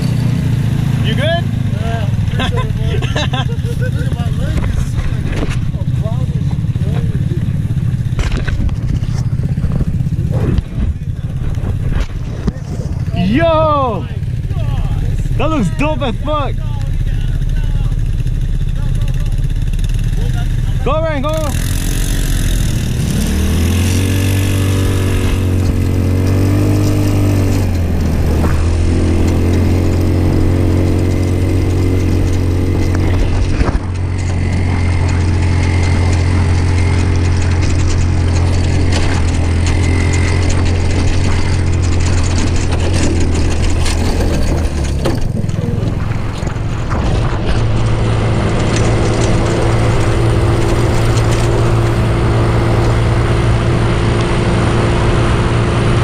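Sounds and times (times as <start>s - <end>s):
go-kart engine under throttle: 0.0s - 56.0s.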